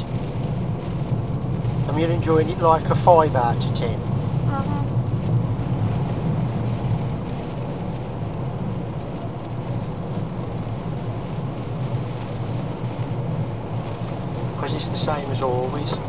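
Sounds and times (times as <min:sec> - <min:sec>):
car engine drone: 0:00.0 - 0:16.0.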